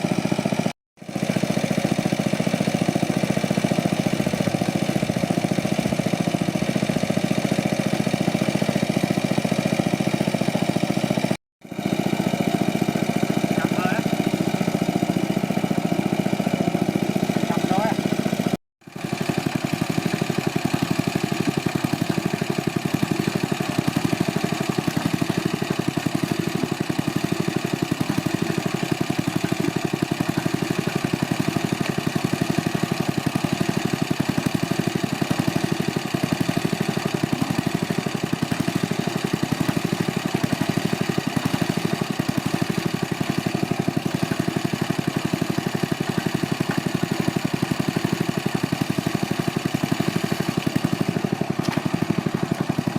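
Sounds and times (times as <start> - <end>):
small engine running: 0.0 - 52.9.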